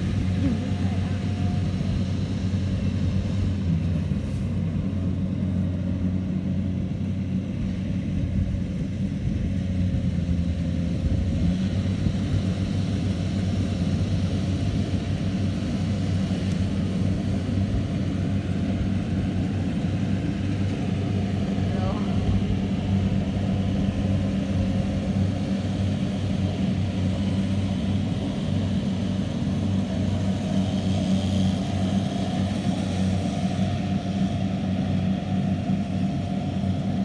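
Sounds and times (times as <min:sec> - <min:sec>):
combine harvester drone: 0:00.0 - 0:37.0.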